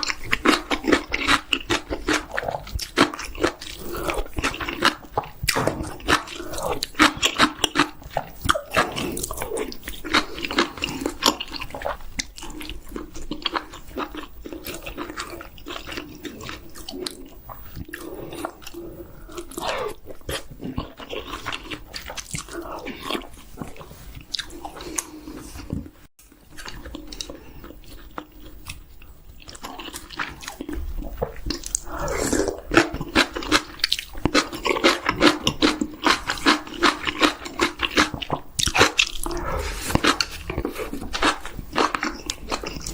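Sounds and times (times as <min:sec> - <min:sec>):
person chewing chicken: 0:00.0 - 0:42.9.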